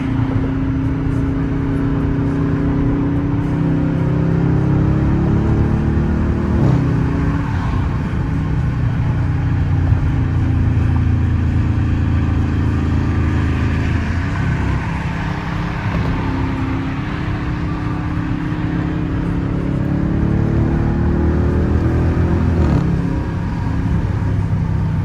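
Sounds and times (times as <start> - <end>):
car exhaust drone from inside: 0.0 - 25.0.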